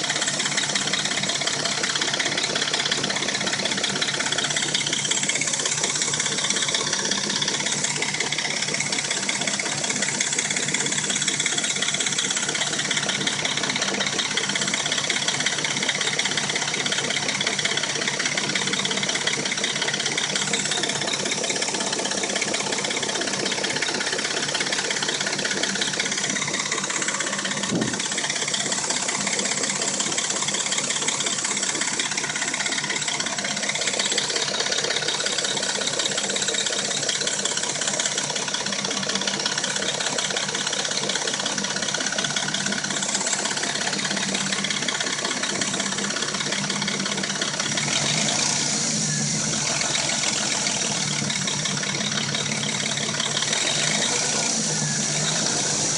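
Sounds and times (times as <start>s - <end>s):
car engine idling: 0.0s - 55.9s
fast mechanical ticking noise: 0.0s - 55.9s.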